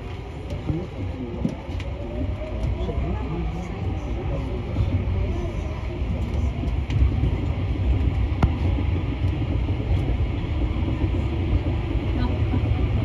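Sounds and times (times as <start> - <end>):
metro train rumbling in tunnel: 0.0 - 13.0.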